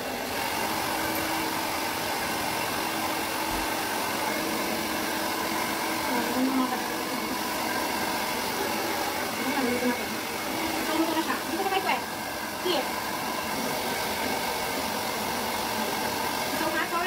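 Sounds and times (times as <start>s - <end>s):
hair dryer humming: 0.0s - 17.0s.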